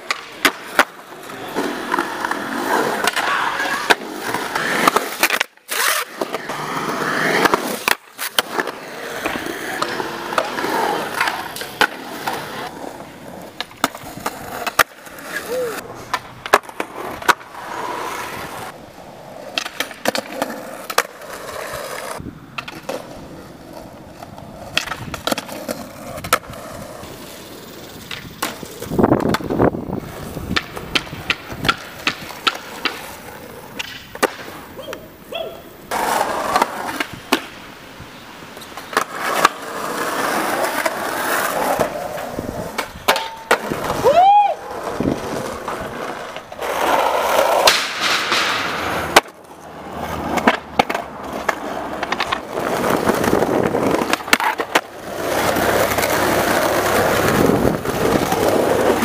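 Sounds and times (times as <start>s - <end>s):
skateboard pops and clacks: 0.0s - 6.6s, 7.2s - 17.8s, 19.4s - 27.2s, 27.9s - 35.1s, 35.9s - 37.7s, 38.5s - 59.0s
skateboard wheels rolling on asphalt: 0.0s - 59.0s.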